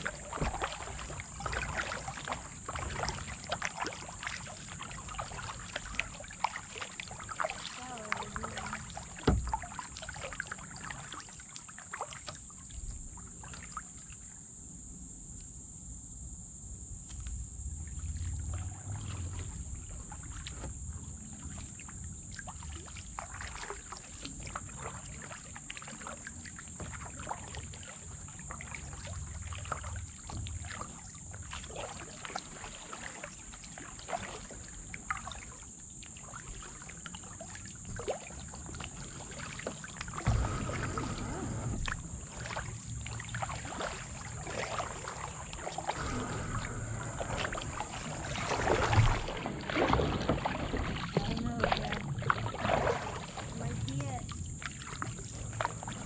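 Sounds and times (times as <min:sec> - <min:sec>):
kayak paddles dipping and dripping: 0:00.0 - 0:14.5, 0:16.9 - 0:56.0
high insect drone: 0:00.0 - 0:56.0.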